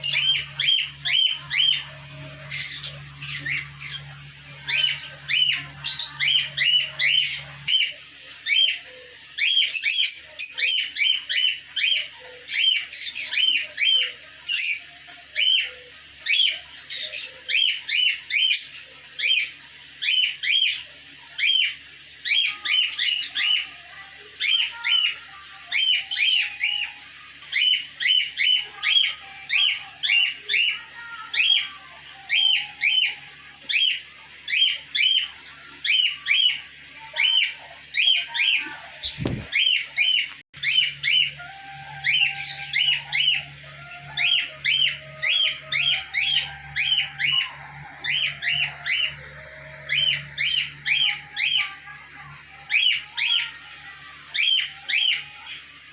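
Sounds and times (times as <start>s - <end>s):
parrots chirping: 0.0s - 55.9s.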